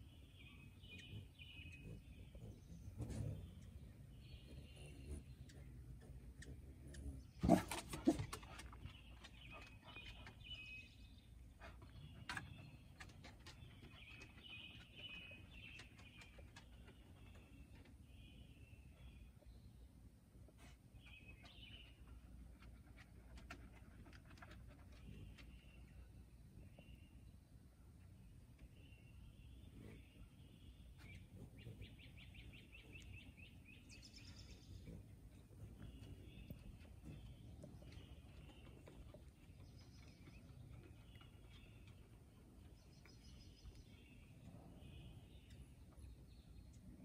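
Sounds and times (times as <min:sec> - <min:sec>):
low outdoor rumble: 0:00.0 - 0:18.5, 0:19.4 - 0:47.0
faint birdsong chirping: 0:00.0 - 0:47.0.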